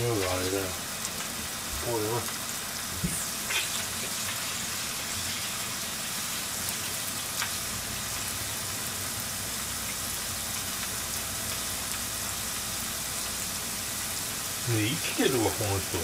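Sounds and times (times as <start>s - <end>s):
pot of water hissing on hob: 0.0s - 16.0s.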